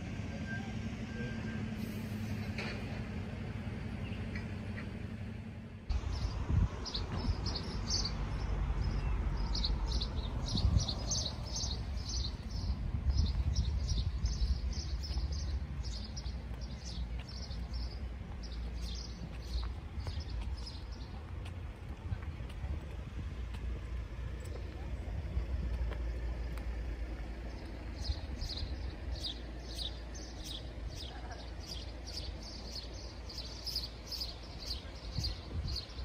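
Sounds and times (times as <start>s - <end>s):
steady low rumble: 1.7s - 36.0s
small birds chirping: 5.9s - 22.6s, 23.4s - 36.0s.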